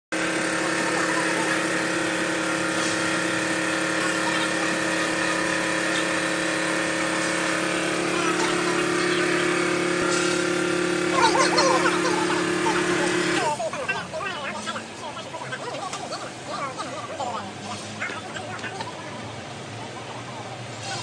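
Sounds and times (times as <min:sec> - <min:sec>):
filter press machine humming: 0:00.1 - 0:21.0.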